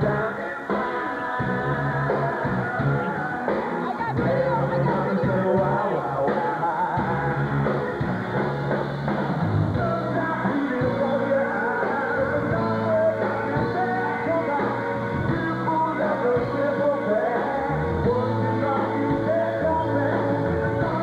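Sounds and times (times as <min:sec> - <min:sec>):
lead singer singing: 0:00.0 - 0:08.1, 0:09.7 - 0:21.0
funk-rock band playing: 0:00.0 - 0:21.0.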